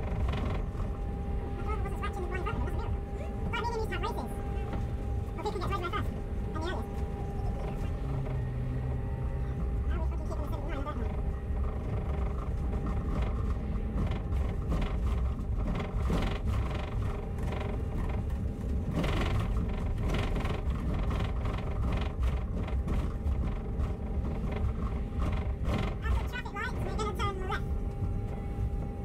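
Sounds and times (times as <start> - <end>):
bus engine rumble: 0.0 - 29.0
faint whir: 0.0 - 29.0.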